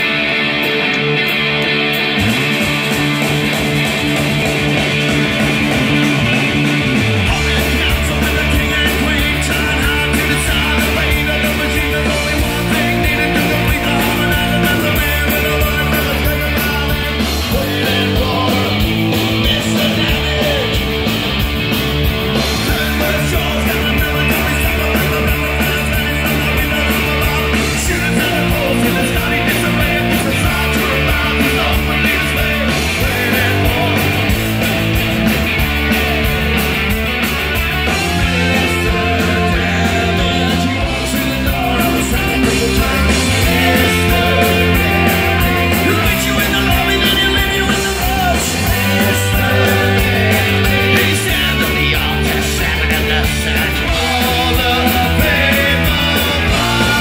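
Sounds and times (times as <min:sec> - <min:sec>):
bass guitar: 0:00.0 - 0:57.0
distorted electric guitars: 0:00.0 - 0:57.0
drum kit: 0:00.0 - 0:57.0
lead singer singing: 0:04.7 - 0:21.1, 0:22.4 - 0:57.0.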